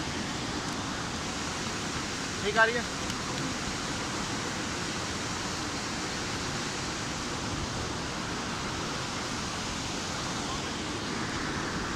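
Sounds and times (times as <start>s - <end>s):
river rushing over rocks: 0.0s - 11.9s.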